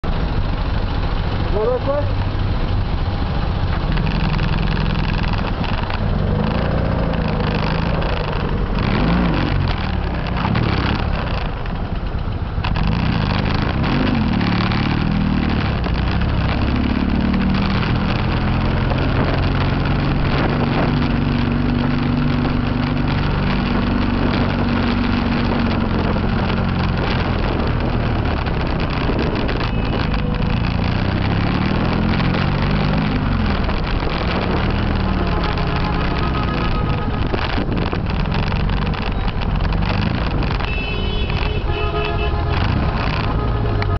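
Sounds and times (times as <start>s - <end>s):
constant rushing noise: 0.0s - 43.9s
motorcycle engine revving: 2.6s - 43.9s.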